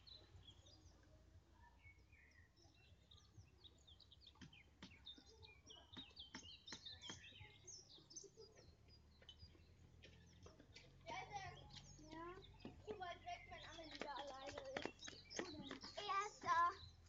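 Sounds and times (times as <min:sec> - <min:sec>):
birds chirping and whistling: 0:00.0 - 0:01.1, 0:01.7 - 0:17.0.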